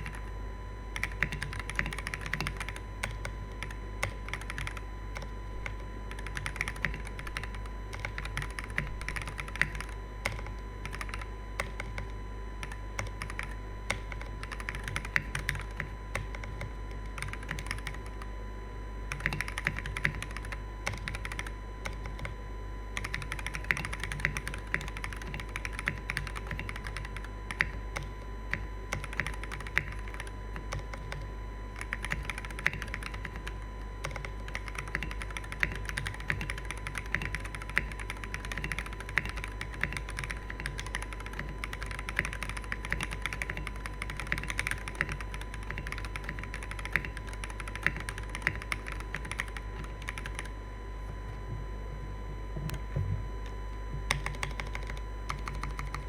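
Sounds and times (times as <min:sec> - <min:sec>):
mechanical keyboard typing: 0:00.0 - 0:00.3, 0:01.0 - 0:18.3, 0:19.1 - 0:22.4, 0:23.0 - 0:50.5, 0:54.1 - 0:56.0.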